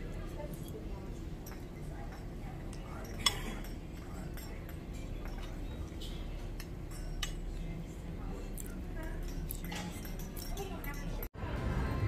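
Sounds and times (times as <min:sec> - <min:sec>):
low background hum: 0:00.0 - 0:12.0
cutlery clinking on plate: 0:00.4 - 0:07.8, 0:08.5 - 0:11.3.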